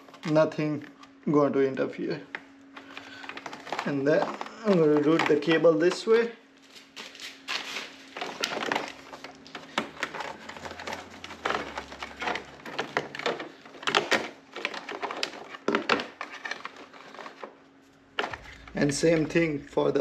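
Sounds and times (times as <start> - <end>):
cable rustling and scraping: 2.8 - 20.0.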